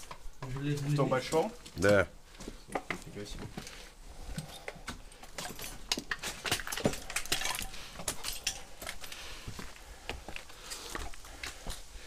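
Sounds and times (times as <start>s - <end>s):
footsteps on loose rubble: 0.0s - 12.0s.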